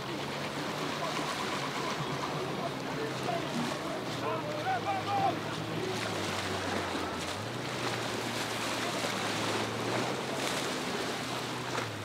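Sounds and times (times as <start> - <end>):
boat engine droning: 0.0 - 12.0
boat wake rushing: 0.0 - 12.0.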